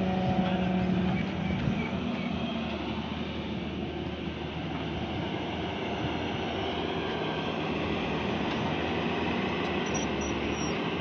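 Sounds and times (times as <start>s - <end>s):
excavator diesel engine and hydraulics: 0.0s - 11.0s.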